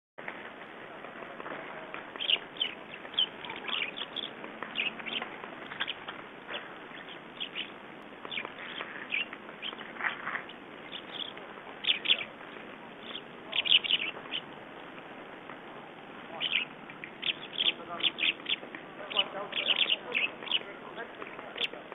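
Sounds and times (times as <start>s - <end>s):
songbirds chirping: 0.3s - 21.9s.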